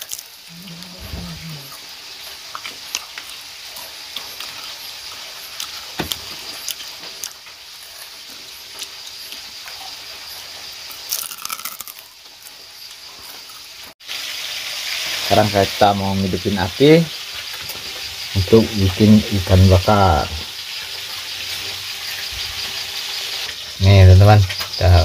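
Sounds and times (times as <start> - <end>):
oil crackling and popping: 0.0 - 23.8
fish sizzling in hot oil: 0.0 - 24.9.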